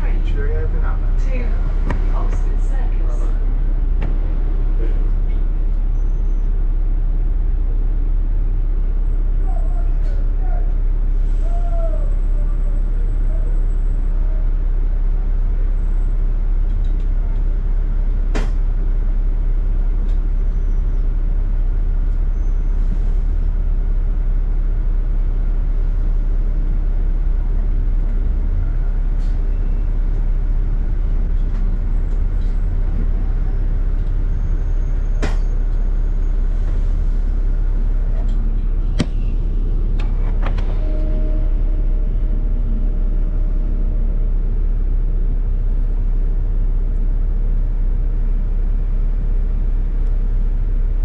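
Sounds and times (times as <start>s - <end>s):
bus engine rumble: 0.0s - 51.0s.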